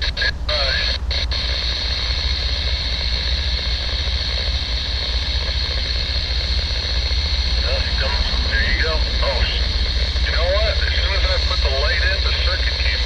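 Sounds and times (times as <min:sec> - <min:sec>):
distant diesel locomotive rumble: 0:00.0 - 0:13.0
high-pitched drone: 0:00.0 - 0:13.0.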